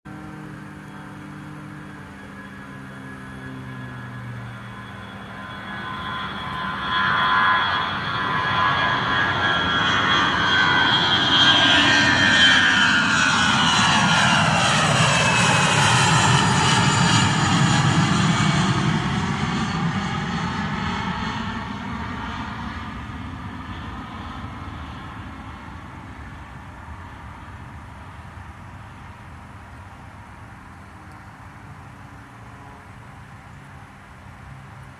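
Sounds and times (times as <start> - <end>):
jet engines passing with whine: 0.1 - 34.9.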